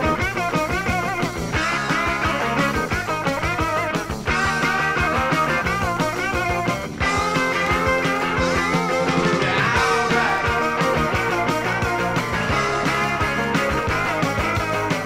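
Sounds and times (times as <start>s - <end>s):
power-pop rock band playing: 0.0s - 15.0s.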